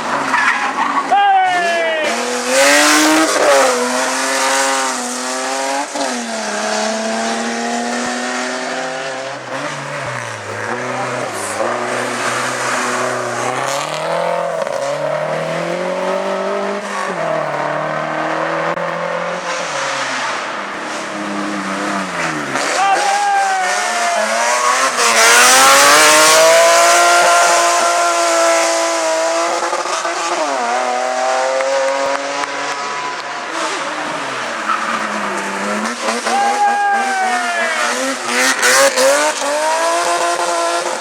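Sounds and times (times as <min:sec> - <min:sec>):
race car engine revving: 0:01.9 - 0:41.0.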